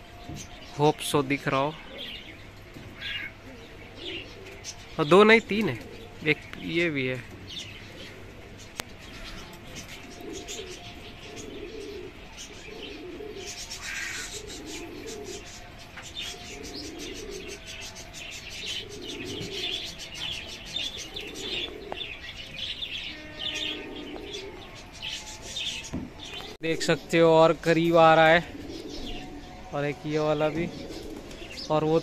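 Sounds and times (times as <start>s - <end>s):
pigeons cooing: 0.0s - 32.0s
small birds chirping: 0.0s - 32.0s.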